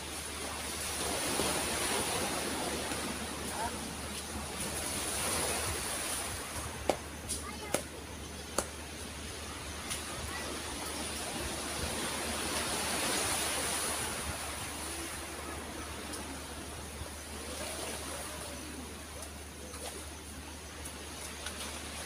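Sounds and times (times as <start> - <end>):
surf washing on shore: 0.0 - 22.0.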